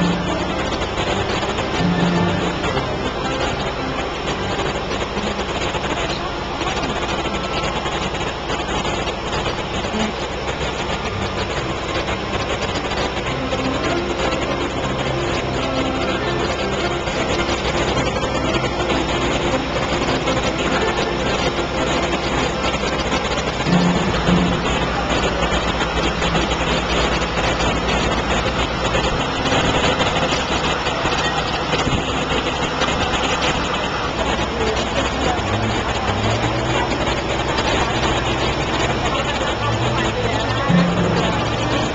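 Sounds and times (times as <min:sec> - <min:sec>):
boat engine droning: 0:00.0 - 0:41.9
wash of noise: 0:00.0 - 0:41.9.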